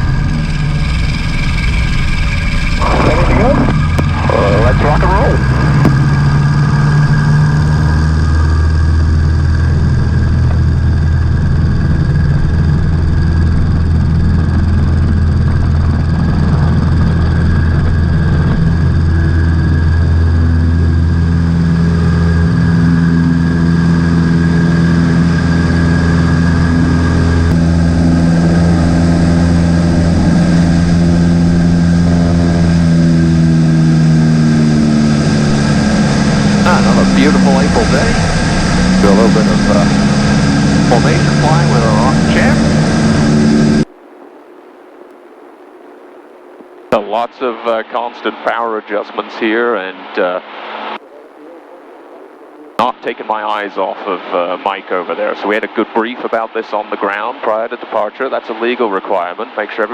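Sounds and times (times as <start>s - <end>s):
airplane engine droning in cabin: 0.0s - 59.9s.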